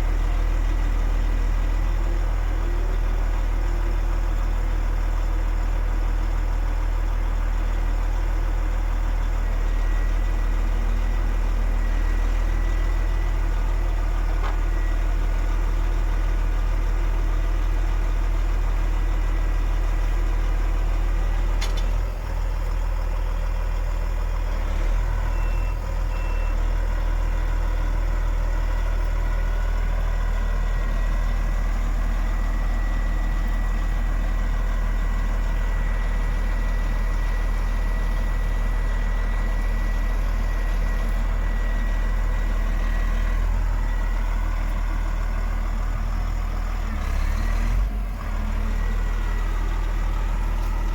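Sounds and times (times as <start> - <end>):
truck diesel engine idling: 0.0 - 50.9.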